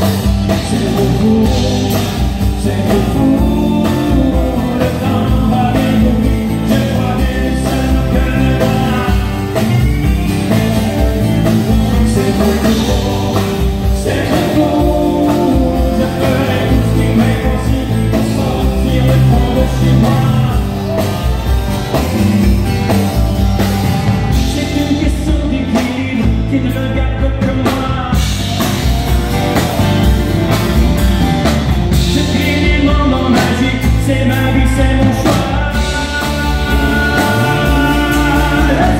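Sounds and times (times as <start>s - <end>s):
man singing: 0.0s - 23.2s, 24.2s - 28.8s, 31.9s - 38.9s
drums: 0.0s - 38.9s
electric guitars: 0.0s - 38.9s.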